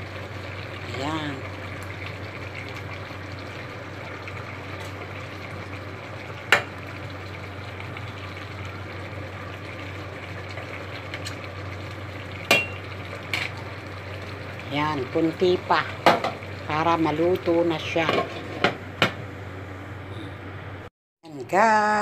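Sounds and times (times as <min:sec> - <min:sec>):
stew bubbling in pot: 0:00.0 - 0:19.2.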